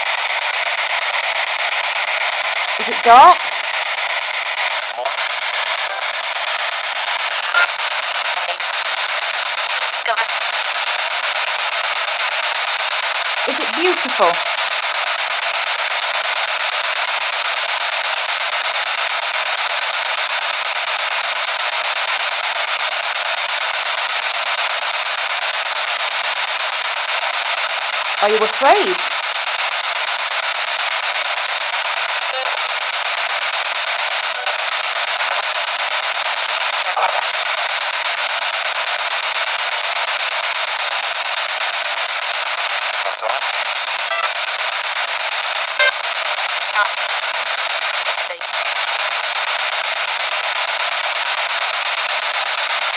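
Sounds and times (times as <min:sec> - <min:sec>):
radio static sweeping stations: 0:00.0 - 0:11.8, 0:13.1 - 0:20.7, 0:25.9 - 0:29.6, 0:30.5 - 0:52.9.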